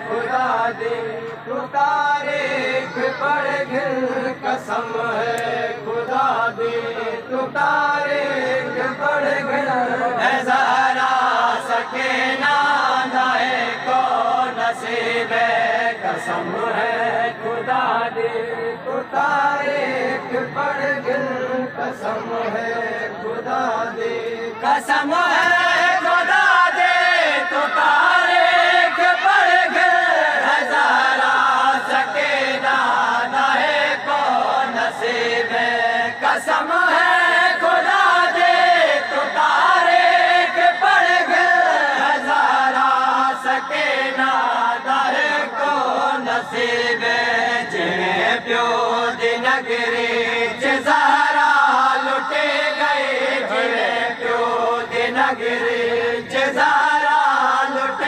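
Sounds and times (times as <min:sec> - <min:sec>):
crowd of men chanting: 0:00.0 - 0:58.0
man chanting through microphone: 0:00.0 - 0:58.0.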